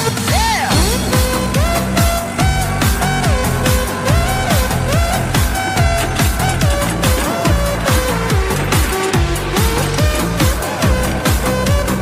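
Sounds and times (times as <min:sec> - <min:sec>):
electronic dance music: 0:00.0 - 0:12.0
gliding synth melody: 0:00.7 - 0:12.0.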